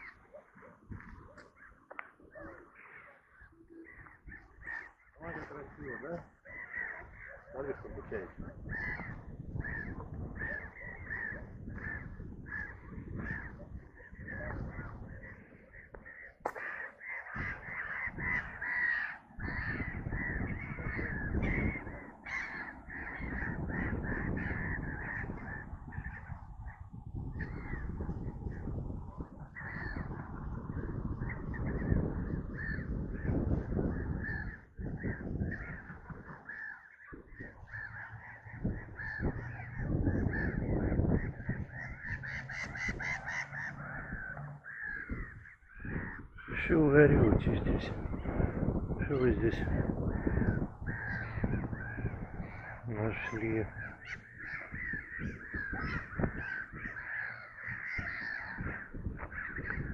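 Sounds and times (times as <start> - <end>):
birds cawing harshly: 0.0 - 59.9.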